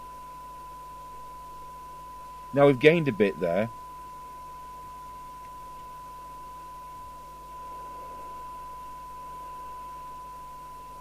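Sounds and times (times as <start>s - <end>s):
faint radio hiss: 0.0s - 11.0s
steady test tone: 0.0s - 11.0s.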